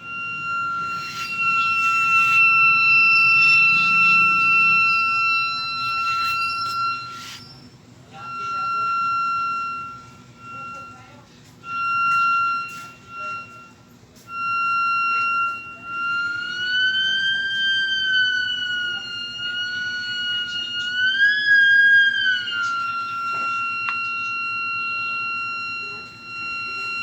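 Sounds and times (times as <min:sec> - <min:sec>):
theremin tone: 0:00.0 - 0:27.0.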